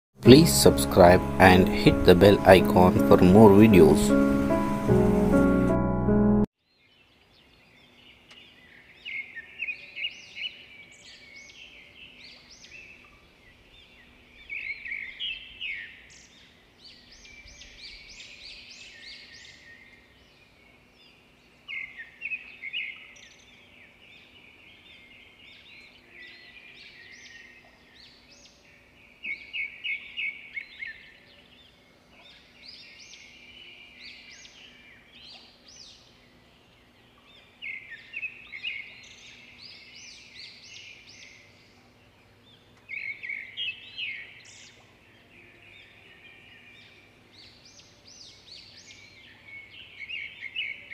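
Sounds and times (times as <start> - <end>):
faint steady background noise: 6.8 - 50.9
small birds chirping: 6.8 - 50.9.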